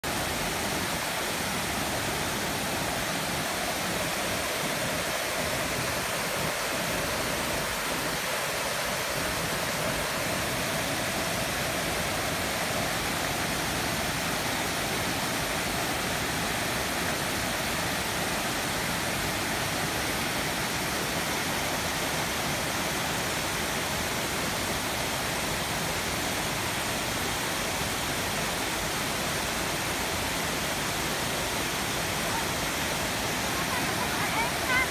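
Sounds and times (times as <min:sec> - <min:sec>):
waterfall splashing into pool: 0:00.0 - 0:34.9.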